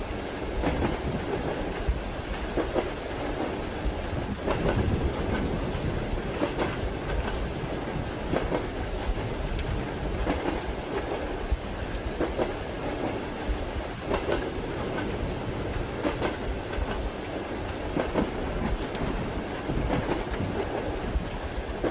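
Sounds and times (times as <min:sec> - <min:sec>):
rain falling: 0:00.0 - 0:21.9
rumble of moving carriage: 0:00.0 - 0:21.9
train wheels clacking over rail joints: 0:00.4 - 0:21.9.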